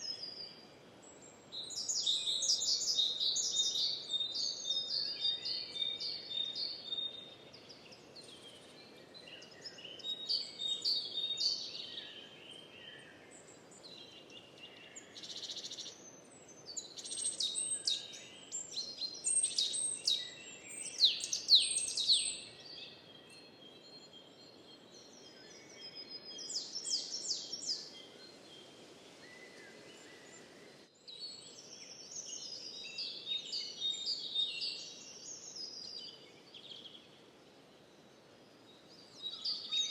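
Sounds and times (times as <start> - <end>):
faint outdoor hiss: 0.0 - 39.9
songbirds singing and chirping: 0.0 - 39.9.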